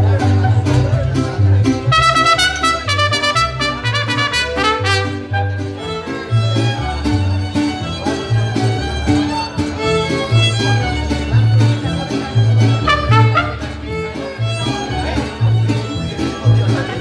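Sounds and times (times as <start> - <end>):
deep plucked bass notes: 0.0 - 17.0
strummed guitar rhythm: 0.0 - 17.0
violins playing melody: 1.8 - 16.9.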